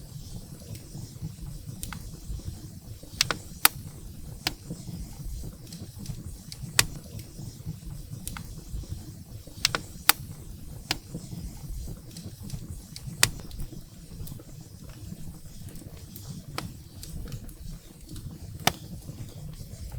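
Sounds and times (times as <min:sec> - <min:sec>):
low rumble of flames: 0:00.0 - 0:19.9
firewood crackling and popping: 0:00.6 - 0:19.9.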